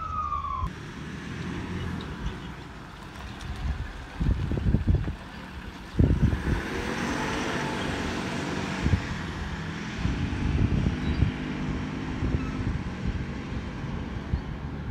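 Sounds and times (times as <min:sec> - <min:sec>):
vehicle driving away: 0:00.0 - 0:14.9
wind buffeting microphone: 0:02.1 - 0:14.9.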